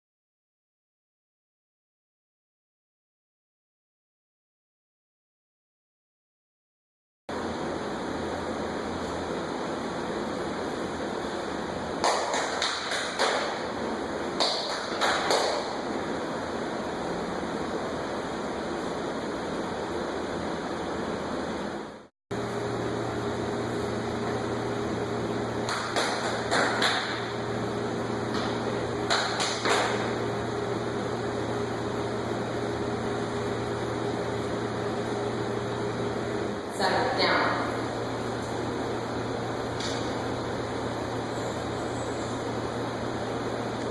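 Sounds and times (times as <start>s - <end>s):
low room hum: 7.3s - 43.9s.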